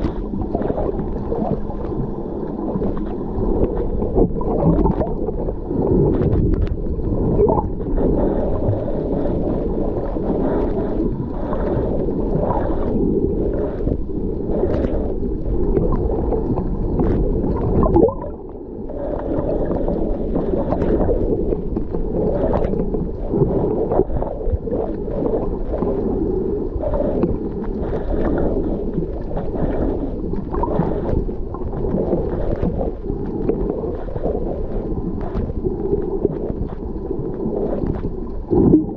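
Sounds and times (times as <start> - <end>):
underwater rumble and gurgling: 0.0 - 38.9
water splashes and bubbles: 0.0 - 38.9.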